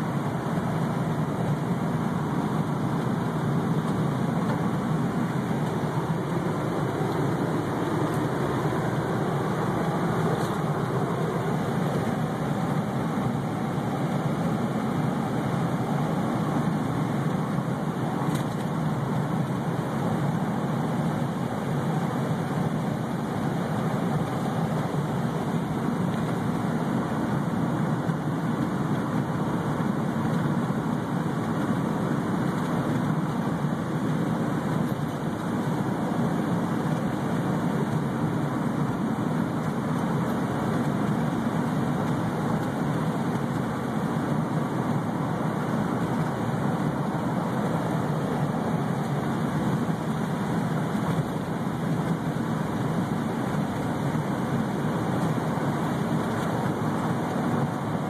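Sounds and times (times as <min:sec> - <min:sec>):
road and engine drone in a car: 0:00.0 - 0:58.0.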